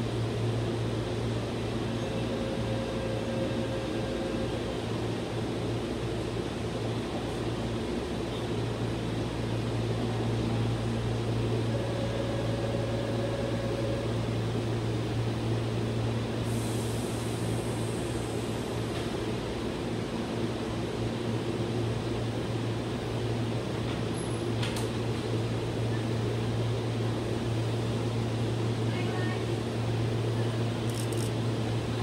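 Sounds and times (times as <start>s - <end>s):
train equipment low hum: 0.0s - 32.0s.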